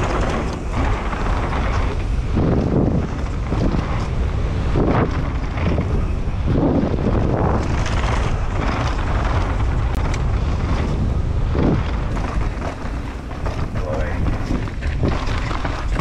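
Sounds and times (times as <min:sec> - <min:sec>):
bike knocks and rattles: 0:00.0 - 0:16.0
tyres rumbling on dirt: 0:00.0 - 0:16.0
wind buffeting microphone: 0:00.0 - 0:16.0.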